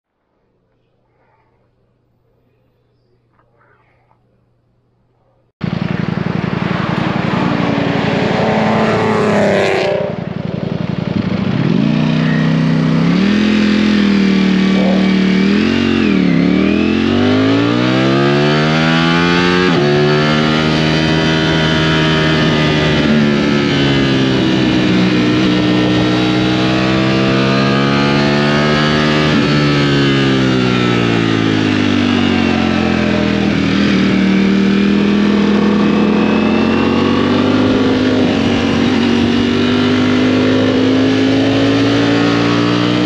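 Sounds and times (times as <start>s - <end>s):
motorcycle engine accelerating: 5.6s - 43.0s.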